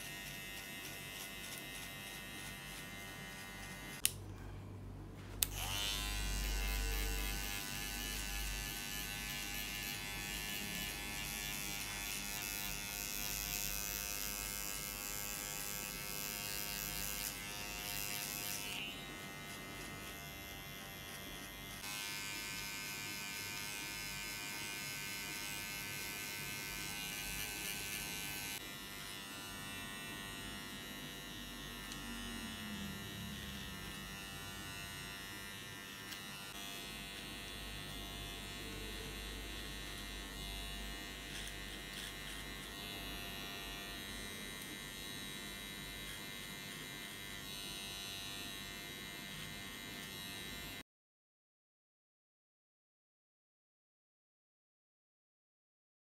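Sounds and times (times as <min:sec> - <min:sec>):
electric hair clipper buzzing: 0:00.0 - 0:04.2, 0:05.4 - 0:50.8.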